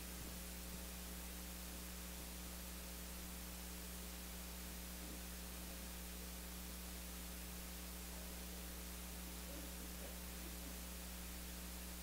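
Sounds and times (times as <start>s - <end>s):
faint electrical hum and hiss: 0.0s - 12.0s.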